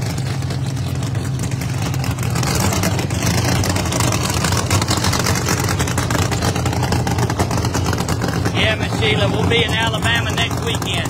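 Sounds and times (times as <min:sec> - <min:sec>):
race car engine idling choppily: 0:00.0 - 0:11.0.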